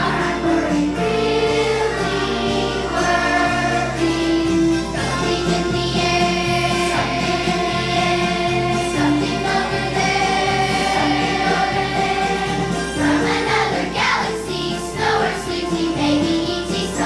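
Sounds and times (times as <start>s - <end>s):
children's choir singing: 0.0s - 17.0s
instrumental accompaniment: 0.0s - 17.0s.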